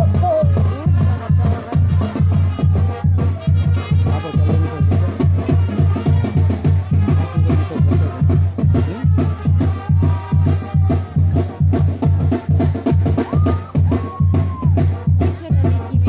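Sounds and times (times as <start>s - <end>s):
music with heavy drum beat: 0.0s - 16.0s
strong bass: 0.0s - 16.0s.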